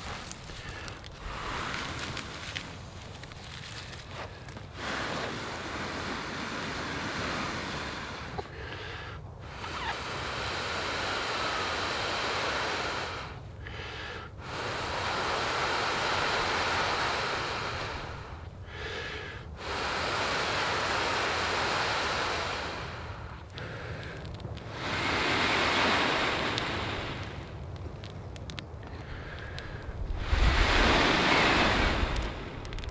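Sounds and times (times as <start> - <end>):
person blowing breaths: 0.0 - 2.7, 3.4 - 27.5, 28.9 - 32.9.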